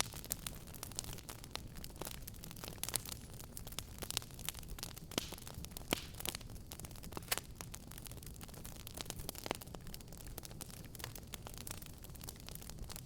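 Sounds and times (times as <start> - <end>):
fire crackling and popping: 0.0 - 13.0
low fire rumble: 0.0 - 13.0.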